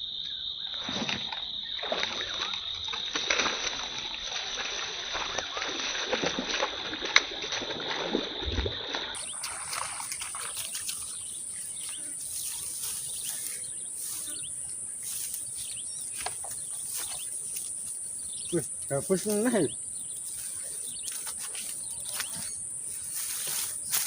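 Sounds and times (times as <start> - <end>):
insect trilling: 0.0 - 24.0.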